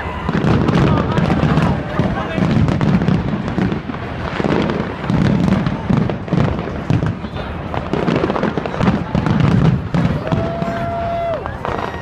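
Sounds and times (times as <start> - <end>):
deep fireworks booms: 0.0 - 12.0
fireworks cracking: 0.0 - 12.0.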